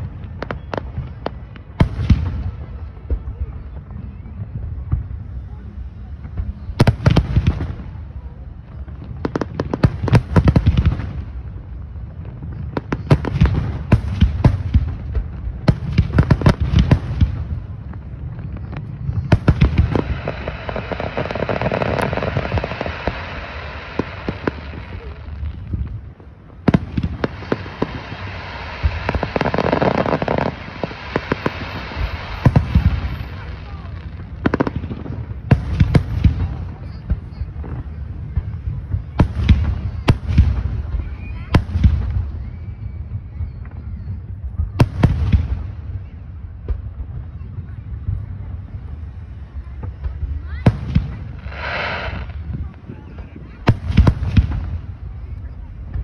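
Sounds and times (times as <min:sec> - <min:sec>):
fireworks booms: 0:00.0 - 0:56.0
fireworks crackling: 0:00.0 - 0:56.0.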